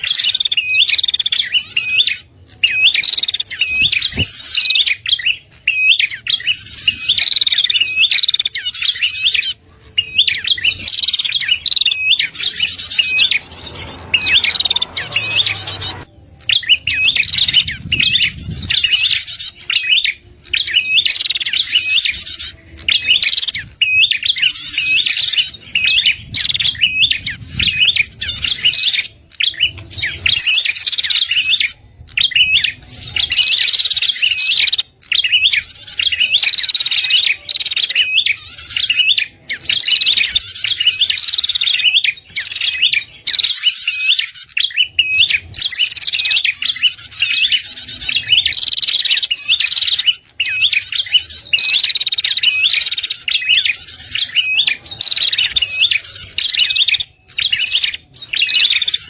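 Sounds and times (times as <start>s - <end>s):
bird fast high chirps: 0.0s - 59.0s.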